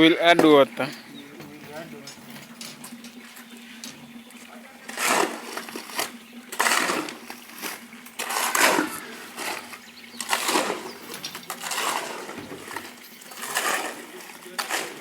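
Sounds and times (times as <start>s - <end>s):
tool scraping wet cement: 1.7s - 15.0s
water pouring: 2.1s - 15.0s.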